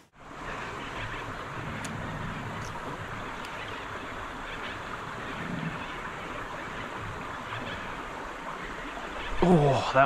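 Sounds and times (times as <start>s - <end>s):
creek running: 0.0s - 10.0s.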